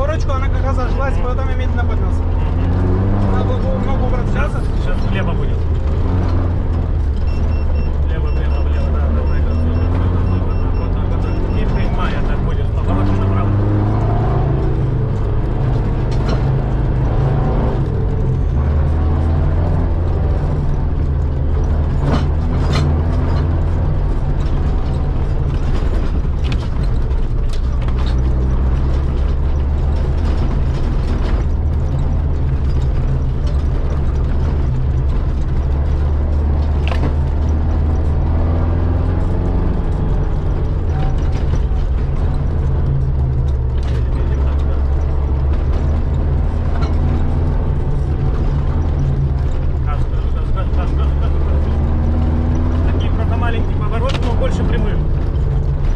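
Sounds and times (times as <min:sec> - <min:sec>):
body and suspension rattles: 0:00.0 - 0:55.9
engine droning under load: 0:00.0 - 0:55.9.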